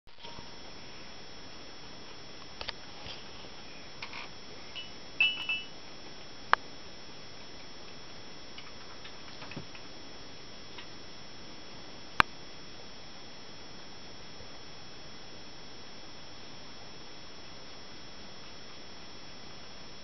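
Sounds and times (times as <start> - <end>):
background hiss: 0.1 - 20.0.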